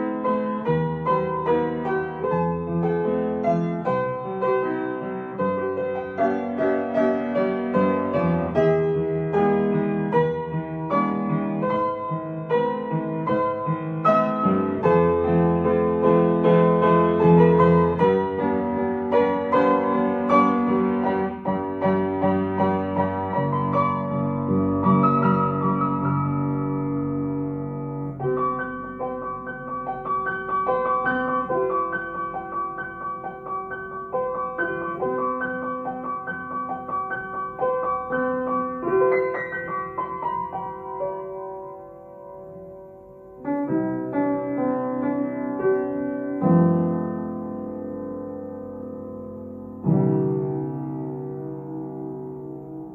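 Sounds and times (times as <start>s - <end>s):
gentle piano music: 0.0s - 52.9s.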